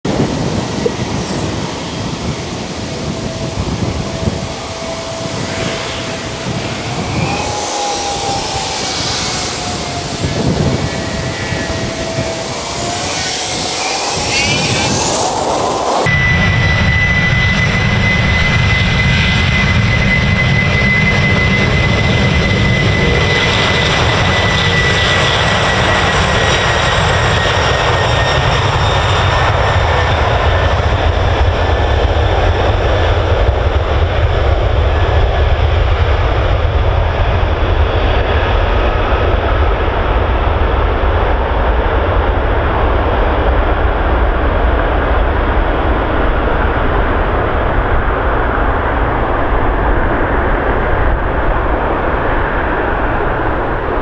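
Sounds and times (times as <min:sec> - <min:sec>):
high jet whine: 0:00.0 - 0:54.0
jet engines roaring: 0:00.0 - 0:54.0.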